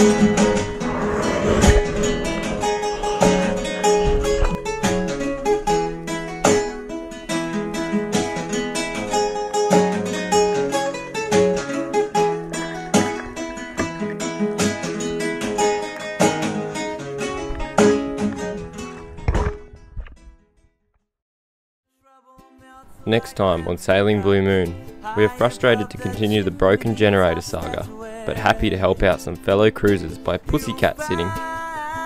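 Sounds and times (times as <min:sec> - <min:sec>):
fast plucked acoustic guitar: 0:00.0 - 0:19.9, 0:23.1 - 0:31.4.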